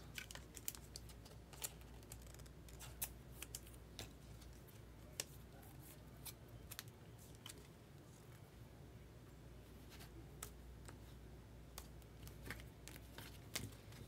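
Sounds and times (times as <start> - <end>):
trading cards being handled: 0.0 - 8.4, 9.8 - 14.0.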